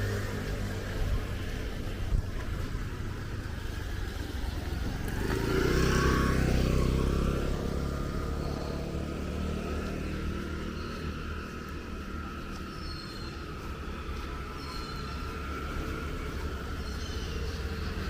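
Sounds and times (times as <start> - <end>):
low traffic rumble: 0.0 - 18.0
motor vehicle passing: 0.0 - 18.0.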